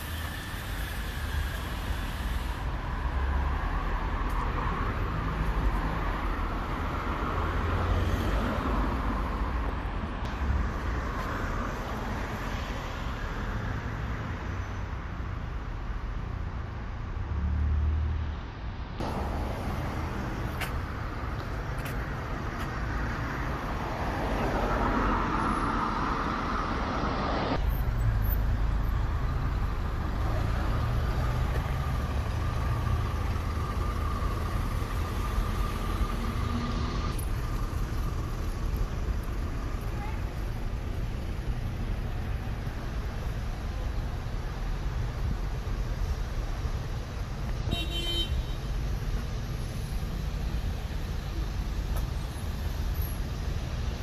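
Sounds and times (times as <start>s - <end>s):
road traffic hum: 0.0s - 54.0s.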